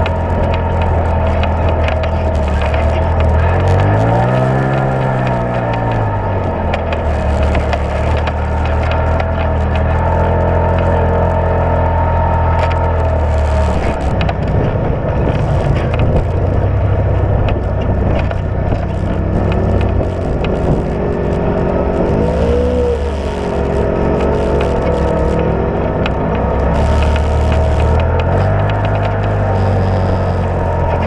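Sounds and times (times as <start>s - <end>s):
rattles and clicks: 0.0s - 31.0s
vehicle engine running: 0.0s - 31.0s.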